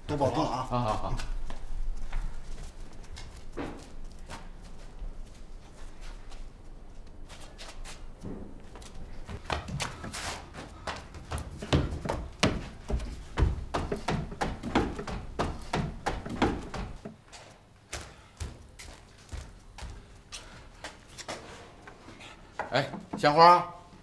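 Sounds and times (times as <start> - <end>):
footsteps on wooden stairs: 0.0 - 23.5.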